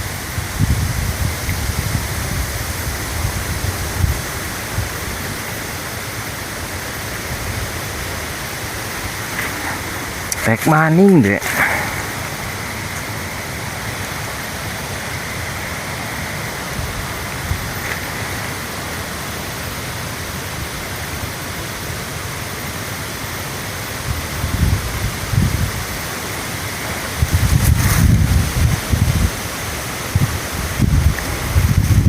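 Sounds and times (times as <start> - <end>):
flowing water rushing: 0.0 - 32.0.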